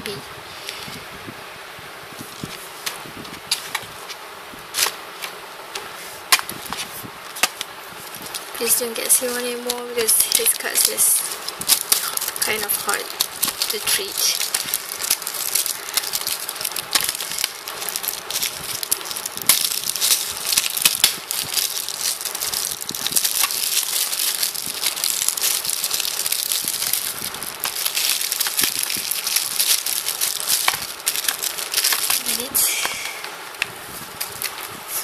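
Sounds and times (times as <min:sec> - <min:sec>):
plastic wrap crinkling: 0:02.2 - 0:35.0.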